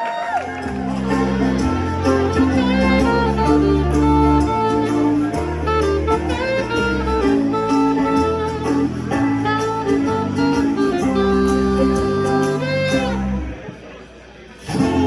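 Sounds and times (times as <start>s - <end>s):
live band playing: 0.4s - 13.8s, 14.6s - 15.0s.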